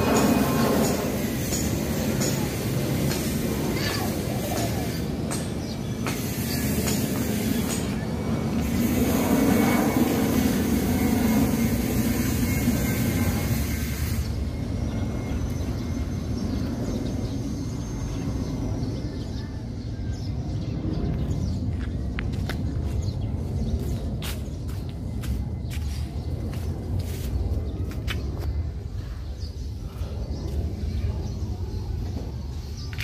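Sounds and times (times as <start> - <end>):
jet engines rumbling overhead: 0.0 - 33.0.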